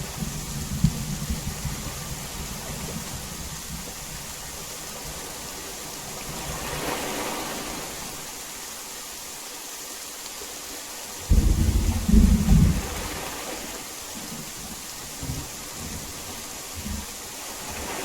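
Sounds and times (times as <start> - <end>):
heavy rain hissing: 0.0 - 18.0.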